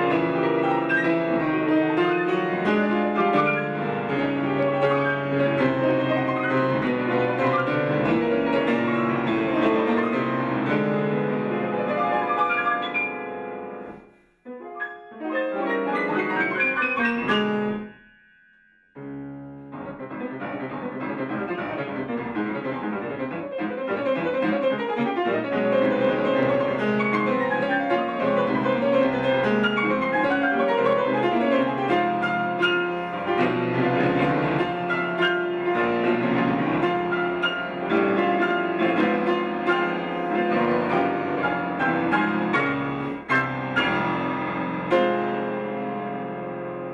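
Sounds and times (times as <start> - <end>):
grand piano classical passage: 0.0 - 46.9.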